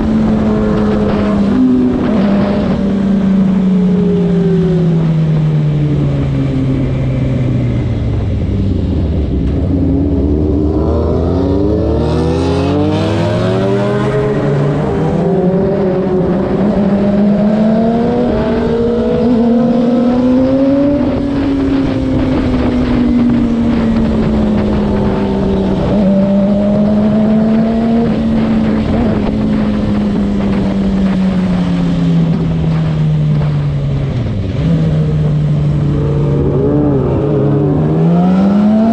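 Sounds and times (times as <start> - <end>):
motorcycle engine revving: 0.0 - 38.9
wind rush: 0.0 - 38.9.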